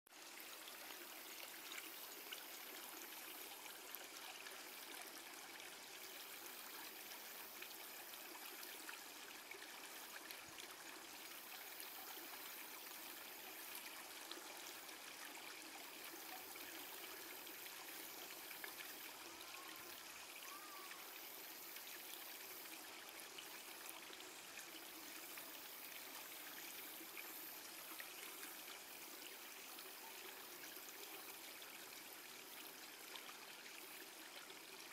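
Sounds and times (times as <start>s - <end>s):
outdoor background hiss: 0.1s - 34.9s.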